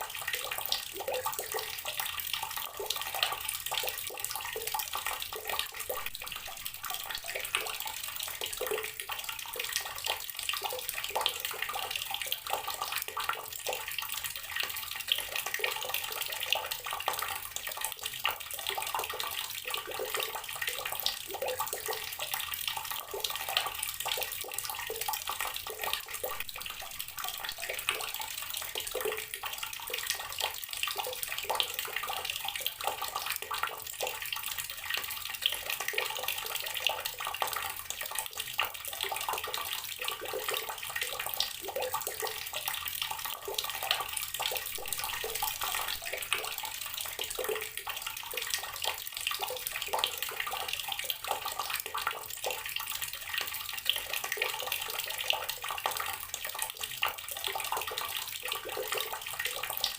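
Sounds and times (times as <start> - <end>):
water tap running and splashing: 0.0 - 59.9.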